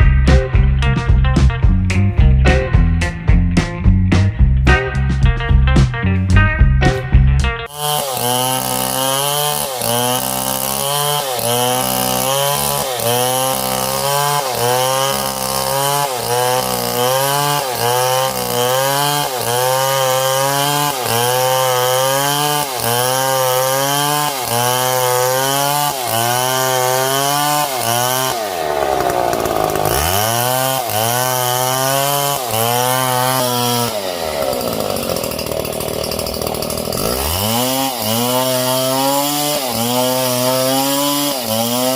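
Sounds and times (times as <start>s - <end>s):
chainsaw cutting wood: 7.6s - 41.9s.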